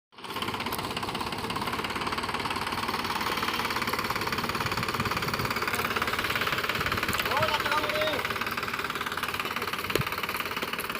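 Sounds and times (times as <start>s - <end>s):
tractor diesel engine running: 0.1s - 10.9s.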